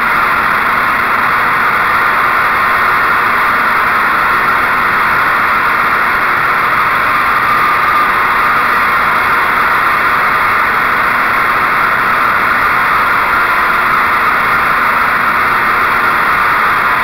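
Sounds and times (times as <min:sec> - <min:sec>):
mower engine at full throttle: 0:00.0 - 0:17.0.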